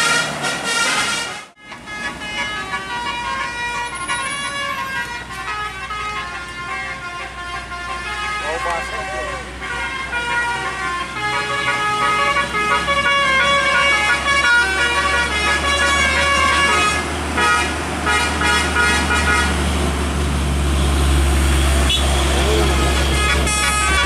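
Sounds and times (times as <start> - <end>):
bus horn playing a tune: 0.0 - 19.9, 20.7 - 24.0
bus engine running: 0.0 - 24.0.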